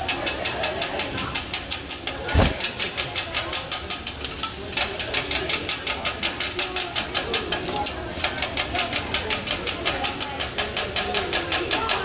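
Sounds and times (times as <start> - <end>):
metal spatula clacking on griddle: 0.0 - 12.0.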